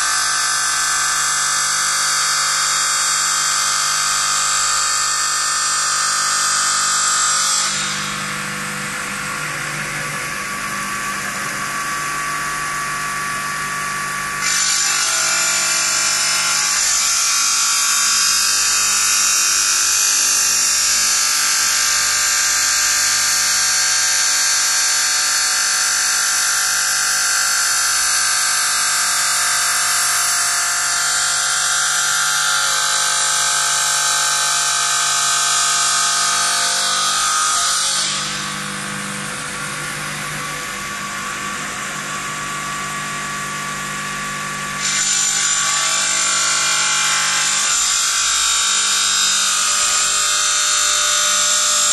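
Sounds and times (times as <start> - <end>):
stone saw blade whining: 0.0 - 51.9.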